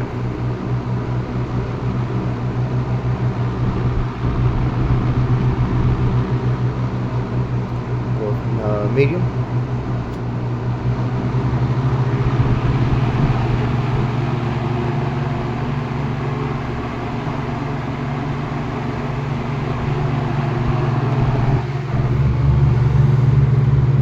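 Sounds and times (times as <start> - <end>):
fan air rushing: 0.0 - 24.0
fan motor hum: 0.0 - 24.0.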